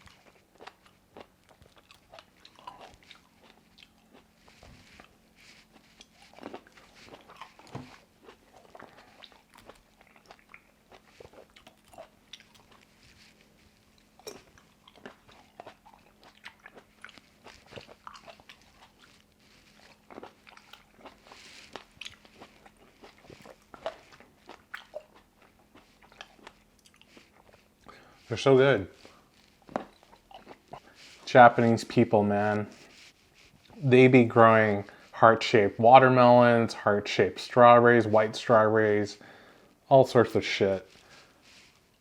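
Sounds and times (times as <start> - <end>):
crisp grape chewing: 0.0 - 33.9, 40.8 - 42.0.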